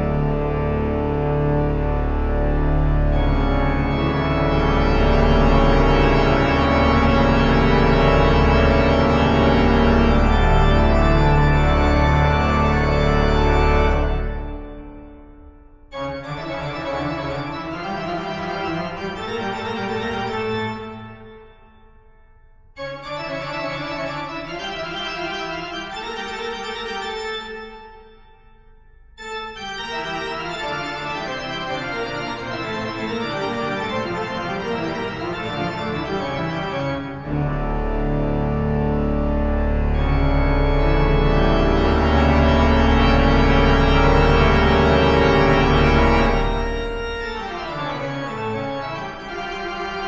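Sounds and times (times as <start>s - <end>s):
held keyboard chords: 0.0s - 50.0s.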